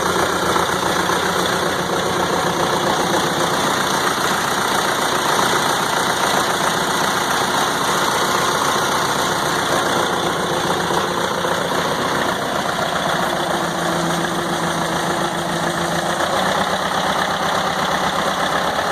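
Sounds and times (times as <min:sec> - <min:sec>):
backhoe engine running: 0:00.0 - 0:18.9.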